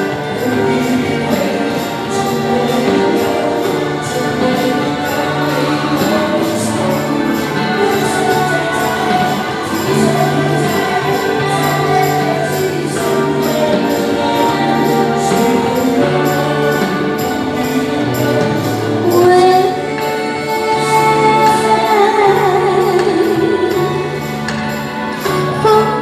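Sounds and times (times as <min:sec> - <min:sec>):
accompaniment music with beat: 0:00.0 - 0:26.0.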